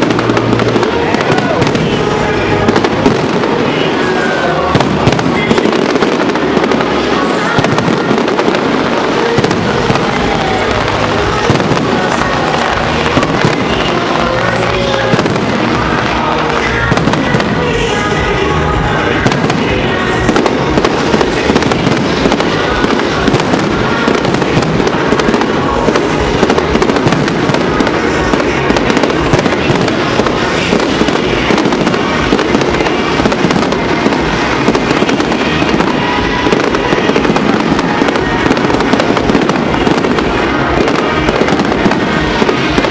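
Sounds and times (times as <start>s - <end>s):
fireworks bangs and crackling: 0.0s - 42.9s
music: 0.0s - 42.9s.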